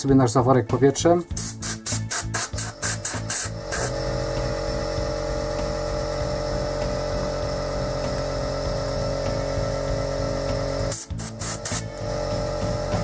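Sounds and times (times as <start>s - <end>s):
air compressor humming: 1.2s - 13.0s.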